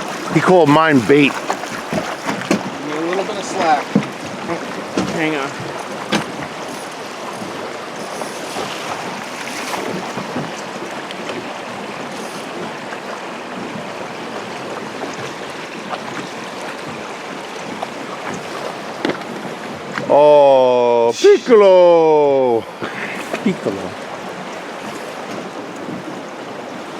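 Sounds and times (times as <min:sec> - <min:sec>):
river water flowing: 0:00.0 - 0:26.9.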